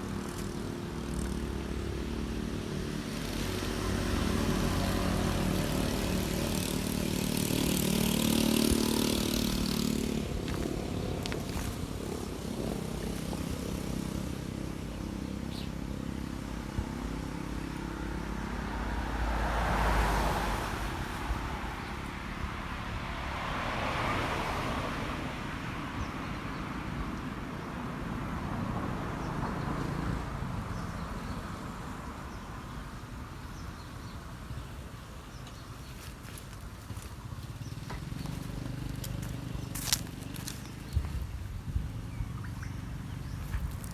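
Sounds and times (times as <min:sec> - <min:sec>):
road vehicles passing by: 0:00.0 - 0:43.9.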